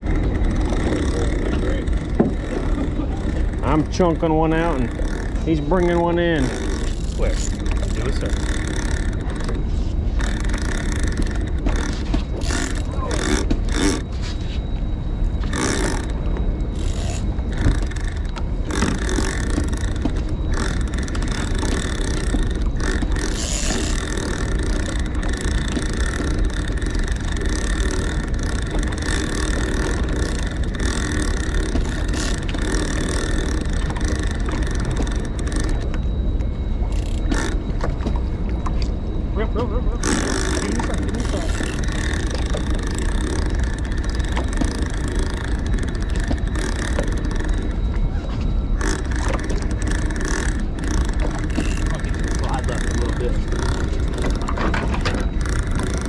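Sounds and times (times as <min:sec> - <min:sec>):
gear scraping and knocking: 0:00.0 - 0:14.4, 0:15.3 - 0:36.1, 0:36.8 - 0:38.8, 0:40.0 - 0:56.0
boat noise: 0:00.0 - 0:56.0
wind at sea: 0:00.0 - 0:56.0.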